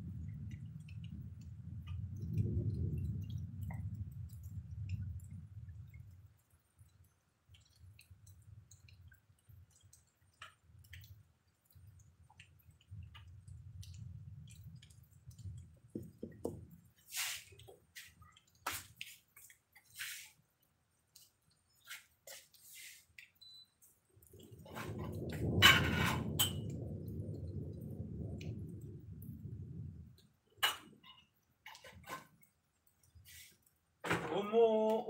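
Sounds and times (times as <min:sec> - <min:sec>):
rain drips and splashes: 0:00.0 - 0:35.0.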